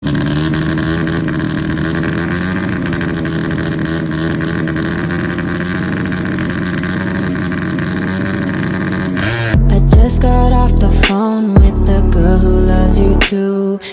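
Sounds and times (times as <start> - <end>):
motorcycle engine steady pitch: 0.0 - 13.5.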